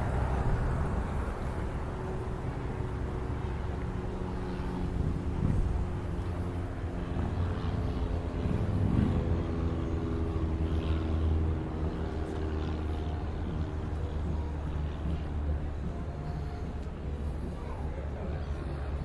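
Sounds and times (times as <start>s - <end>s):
low bumps: 0.0s - 17.6s
motor humming steadily: 0.0s - 19.0s.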